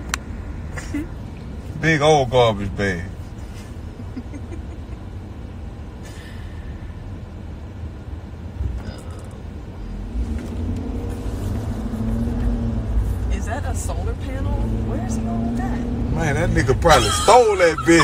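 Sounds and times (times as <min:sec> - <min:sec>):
vehicle cabin road rumble: 0:00.0 - 0:18.0.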